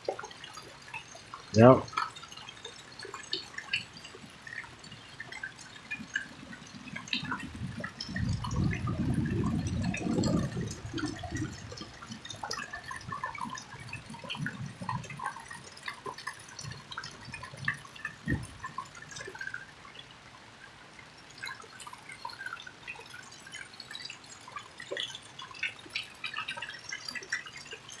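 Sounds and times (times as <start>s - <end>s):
drips splashing: 0.0s - 28.0s
rain falling: 0.0s - 28.0s.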